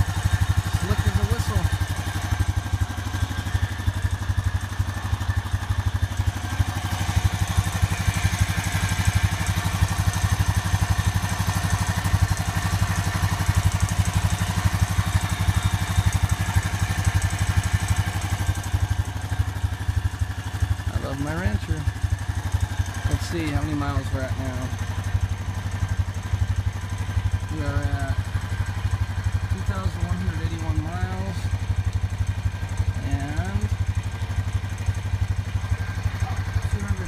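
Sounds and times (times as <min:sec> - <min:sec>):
atv engine idling: 0:00.0 - 0:37.0.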